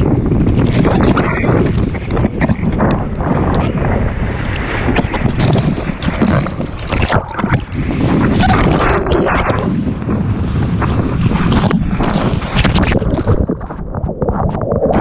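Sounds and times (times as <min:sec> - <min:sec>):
board splashing on choppy water: 0:00.0 - 0:15.0
wind buffeting microphone: 0:00.0 - 0:15.0.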